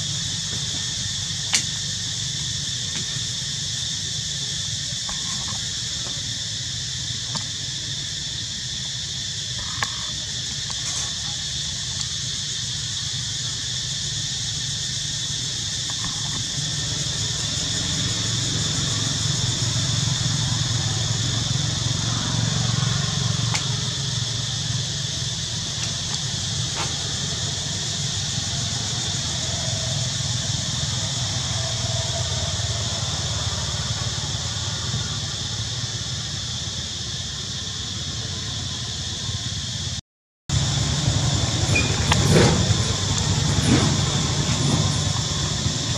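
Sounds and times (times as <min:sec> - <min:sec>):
high hiss: 0:00.0 - 0:45.9.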